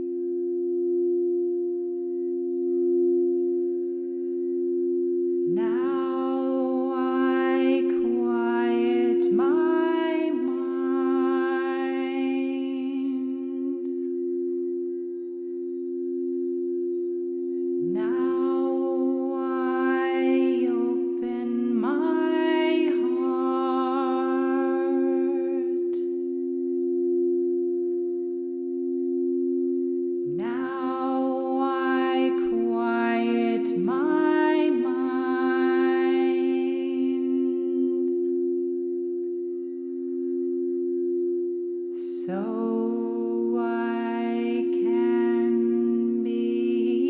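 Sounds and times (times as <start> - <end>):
drone of low tones: 0.0 - 47.0
singing bowl ringing: 0.0 - 47.0
woman humming held notes: 0.0 - 47.0.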